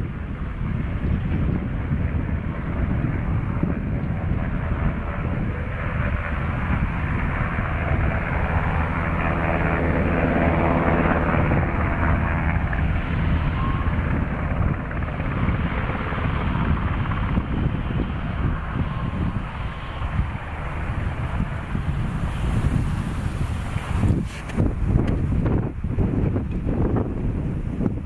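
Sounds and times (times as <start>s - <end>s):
helicopter passing by: 0.0s - 28.0s.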